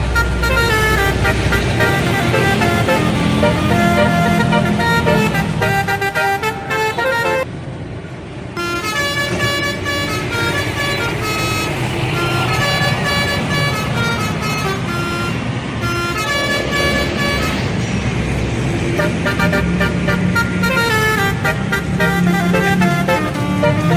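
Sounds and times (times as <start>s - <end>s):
bus horn playing a tune: 0.0s - 7.5s, 8.6s - 17.9s, 18.8s - 23.9s
engine and road noise: 0.0s - 23.9s.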